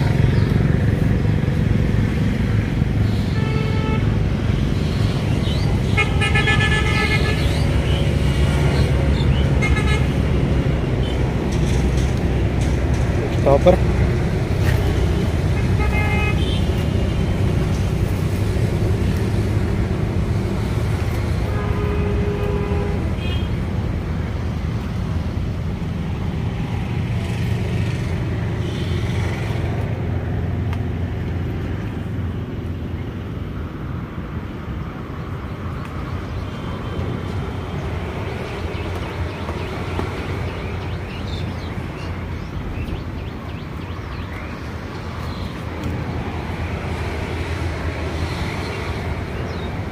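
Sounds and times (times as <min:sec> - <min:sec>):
outdoor background rumble: 0:00.0 - 0:49.9.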